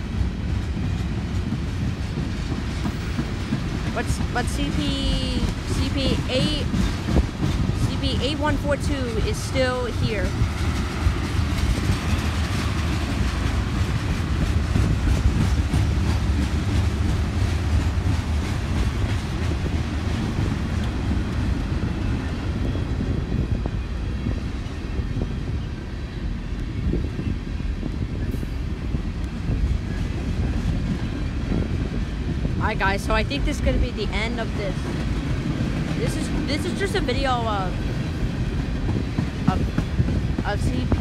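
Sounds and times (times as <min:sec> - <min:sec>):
freight train rumbling past: 0:00.0 - 0:41.0
train wheels clicking on rails: 0:00.0 - 0:41.0.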